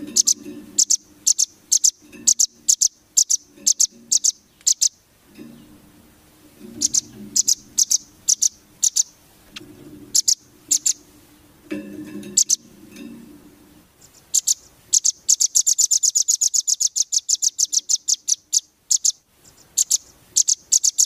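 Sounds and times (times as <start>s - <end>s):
small songbird chirping: 0.0s - 5.8s, 6.6s - 11.1s, 12.3s - 12.7s, 13.9s - 21.0s.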